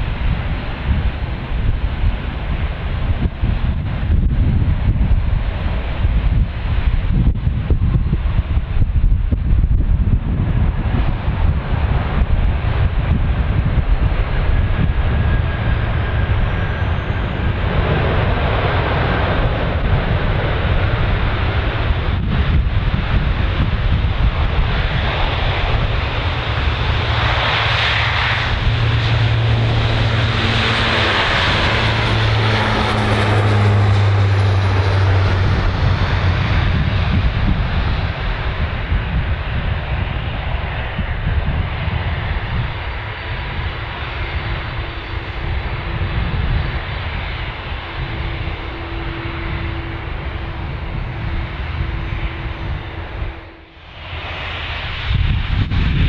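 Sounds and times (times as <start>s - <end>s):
jet engines passing: 0.0s - 56.0s.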